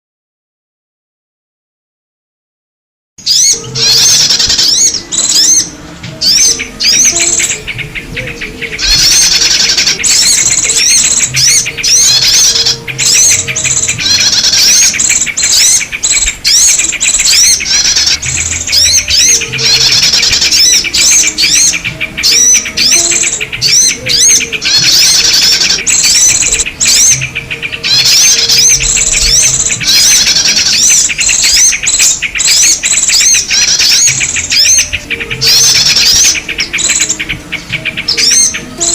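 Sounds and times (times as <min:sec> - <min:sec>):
small birds chirping and trilling: 0:03.2 - 0:38.9.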